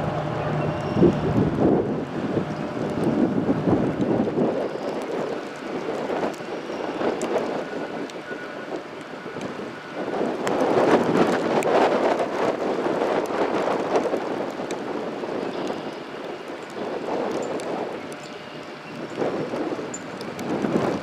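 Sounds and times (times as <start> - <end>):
rain: 0.0 - 21.0
wind buffeting microphone: 0.0 - 21.0.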